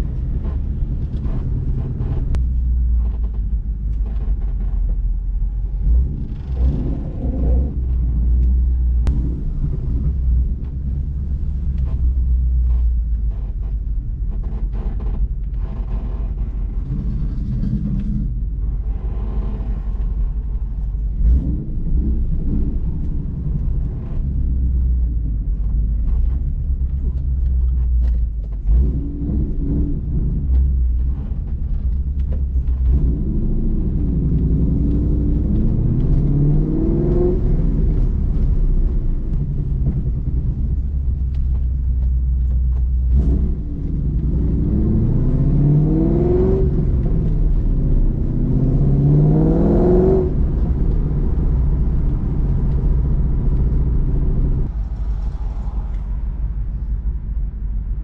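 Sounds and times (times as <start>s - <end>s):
car engine rumbling and accelerating: 0.0s - 58.0s.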